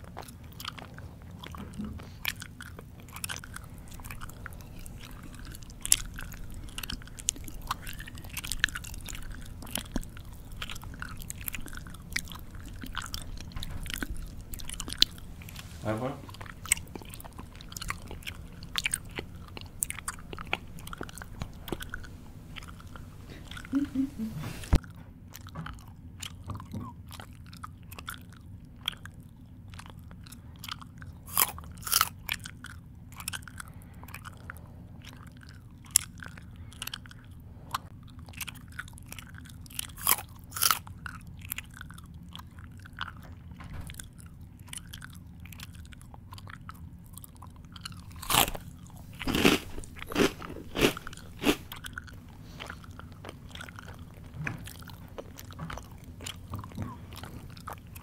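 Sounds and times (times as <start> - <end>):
person chewing with crunches: 0.0 - 58.0.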